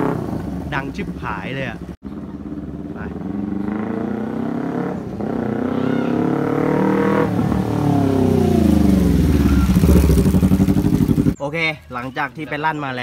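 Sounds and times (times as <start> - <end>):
motorcycle engine accelerating: 0.0 - 11.4.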